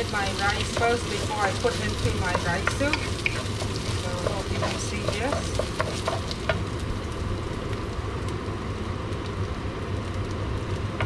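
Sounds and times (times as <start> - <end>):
rice sizzling in a wok: 0.0 - 11.0.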